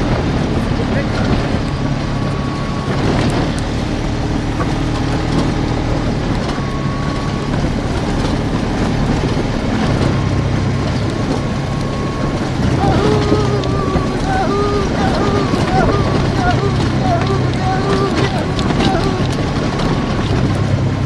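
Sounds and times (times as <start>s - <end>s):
road noise: 0.0s - 21.0s
vehicle engine droning: 0.0s - 21.0s.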